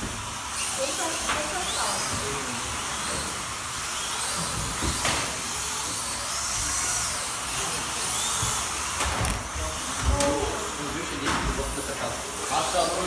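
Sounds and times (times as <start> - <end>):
slot car motors whining: 0.0 - 13.0.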